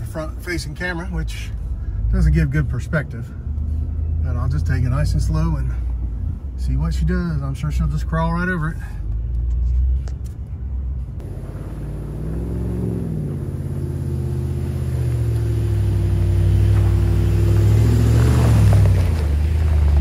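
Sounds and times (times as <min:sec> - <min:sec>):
truck engine at low revs: 0:00.0 - 0:20.0.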